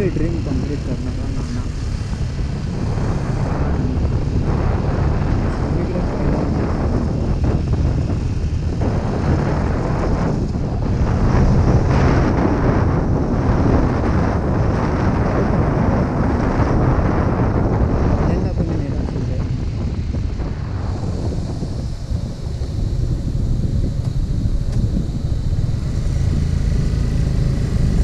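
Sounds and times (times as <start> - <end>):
motorcycle engine running: 0.0 - 28.0
wind on microphone: 0.0 - 28.0.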